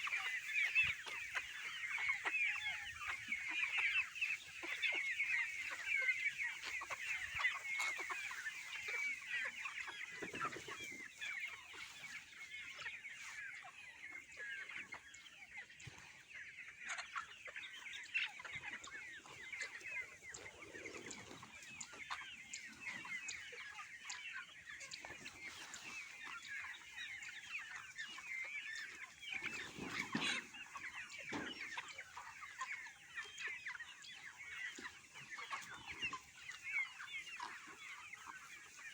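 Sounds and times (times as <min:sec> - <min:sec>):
chickens peeping and clucking: 0:00.0 - 0:38.9.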